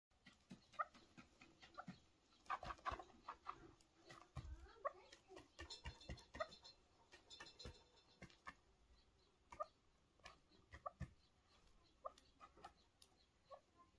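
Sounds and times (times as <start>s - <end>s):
partridge clucking: 0.1s - 13.9s.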